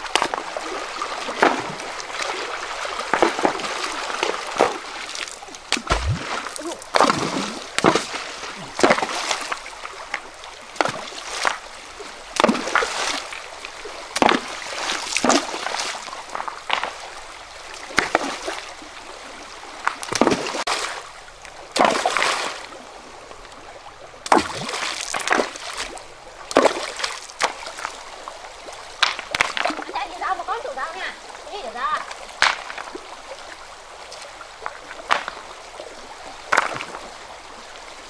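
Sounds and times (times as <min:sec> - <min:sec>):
splashes in shallow water: 0:00.0 - 0:38.0
stream rushing: 0:00.0 - 0:38.0.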